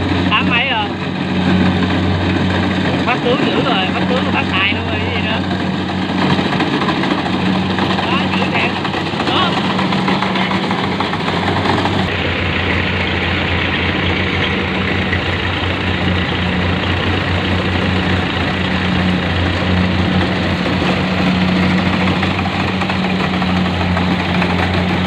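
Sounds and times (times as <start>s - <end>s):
combine harvester engine running: 0.0s - 25.0s.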